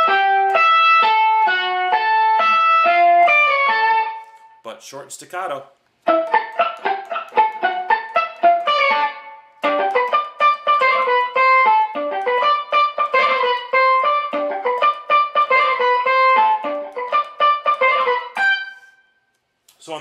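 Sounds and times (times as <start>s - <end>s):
palm-muted electric guitar notes: 0.0s - 4.3s, 6.1s - 18.8s.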